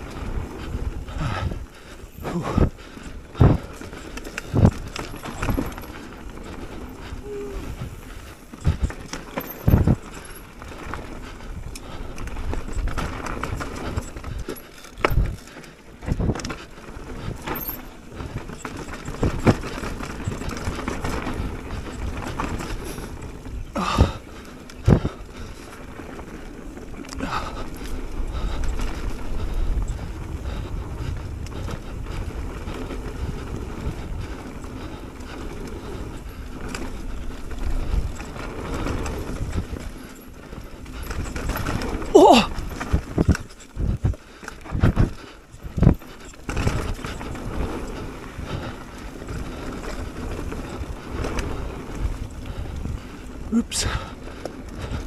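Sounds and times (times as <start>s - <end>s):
bike tyres rolling on dirt: 0.0s - 55.0s.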